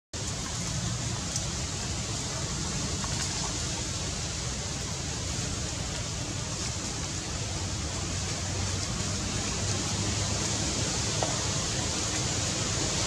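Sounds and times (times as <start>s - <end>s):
steady rushing noise: 0.2s - 13.0s.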